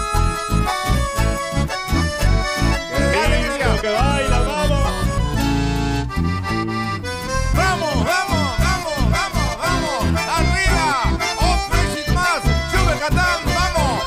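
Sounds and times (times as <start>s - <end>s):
button accordions: 0.0s - 14.0s
steady bass beat: 0.0s - 14.0s.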